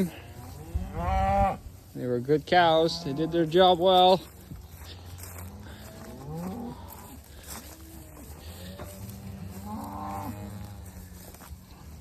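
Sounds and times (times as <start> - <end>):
cows mooing: 0.0 - 1.6, 2.6 - 3.8, 4.8 - 12.0.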